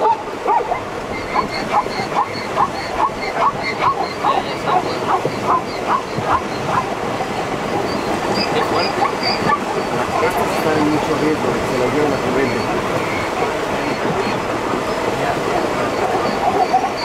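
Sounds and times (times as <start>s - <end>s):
zebras barking: 0.0s - 11.0s, 11.9s - 17.0s.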